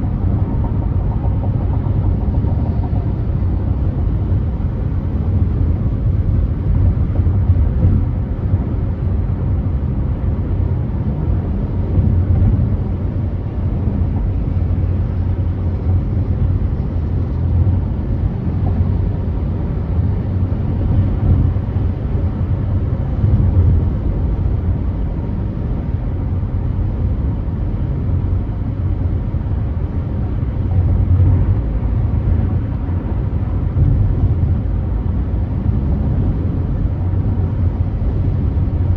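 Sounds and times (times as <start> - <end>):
car driving at freeway speed: 0.0 - 38.9.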